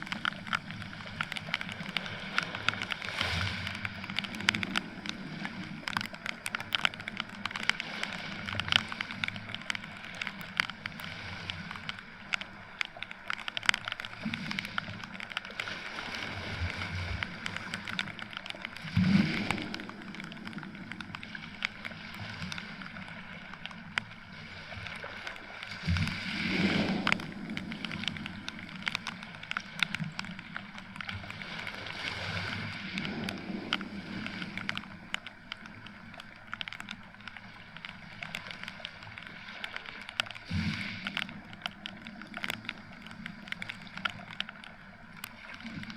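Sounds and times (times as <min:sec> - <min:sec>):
rain falling on beach: 0:00.0 - 0:45.9
small waves washing in: 0:00.0 - 0:45.9.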